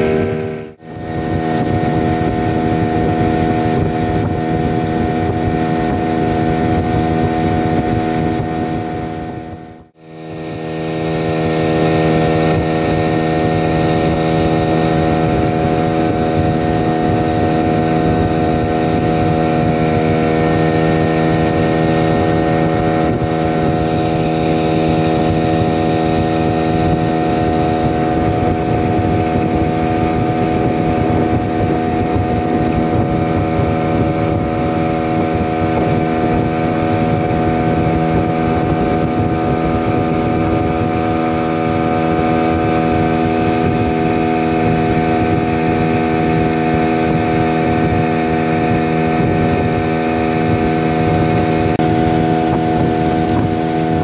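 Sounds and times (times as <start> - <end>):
outboard motor droning: 0.0 - 54.0
wind noise on microphone: 0.0 - 54.0.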